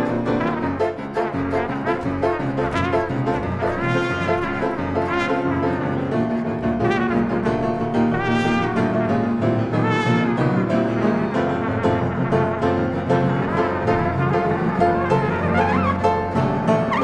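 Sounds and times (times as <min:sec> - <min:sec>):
double bass: 0:00.0 - 0:17.0
grand piano: 0:00.0 - 0:17.0
trumpet playing: 0:00.0 - 0:17.0.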